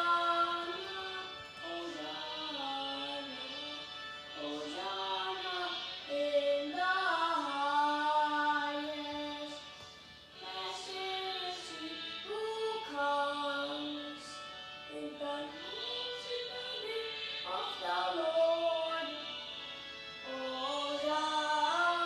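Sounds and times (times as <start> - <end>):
person singing a slow hymn: 0.0 - 19.5, 20.2 - 22.0.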